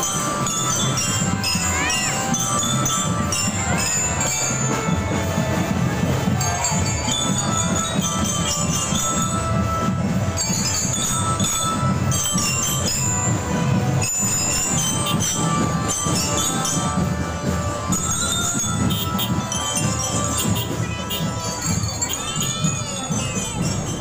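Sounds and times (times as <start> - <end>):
glockenspiels playing melody: 0.0 - 24.0
low marching drums: 0.0 - 24.0.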